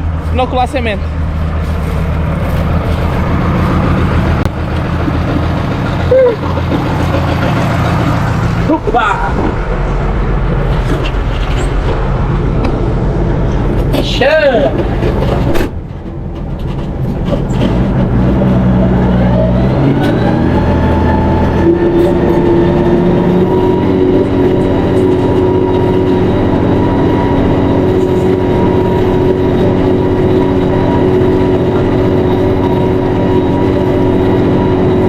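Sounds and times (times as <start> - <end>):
tractor diesel engine revving: 0.0 - 35.0.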